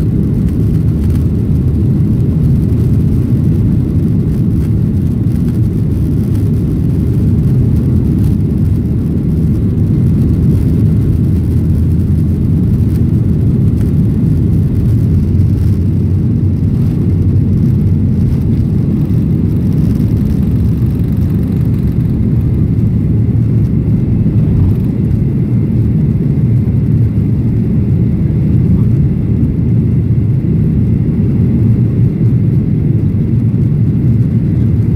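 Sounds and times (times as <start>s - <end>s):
jet engines roaring at takeoff: 0.0s - 34.9s.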